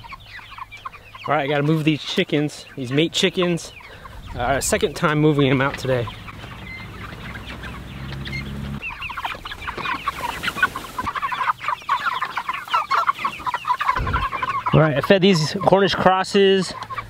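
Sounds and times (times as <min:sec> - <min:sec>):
chickens clucking and peeping: 0:00.0 - 0:17.0.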